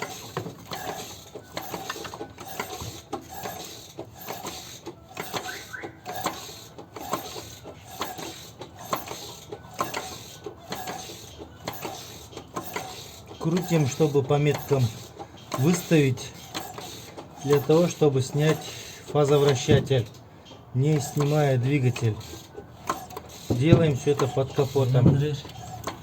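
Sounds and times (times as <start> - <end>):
ratchet wrench clicking: 0.0 - 19.7, 20.9 - 24.8
metallic clicks inside engine: 0.0 - 26.0.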